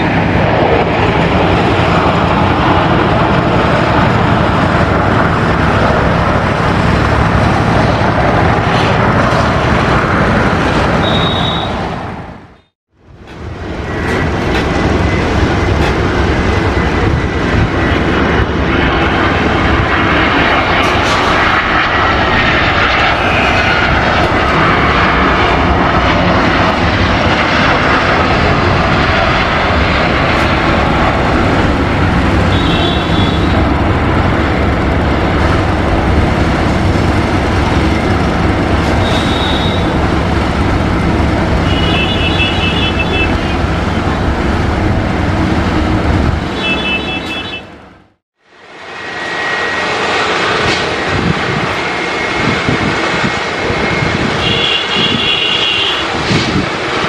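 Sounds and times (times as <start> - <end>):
high engine whine: 0.0 - 57.0
jet engines running: 0.0 - 57.0.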